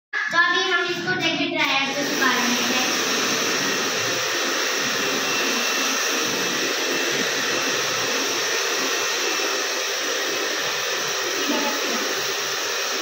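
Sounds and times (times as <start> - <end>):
hair dryer running: 1.6 - 13.0.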